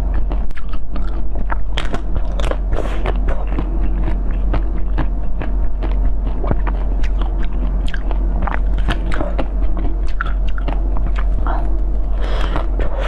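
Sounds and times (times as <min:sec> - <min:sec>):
steady low hum: 0:00.0 - 0:13.0
chewing mouth clicks: 0:00.1 - 0:13.0.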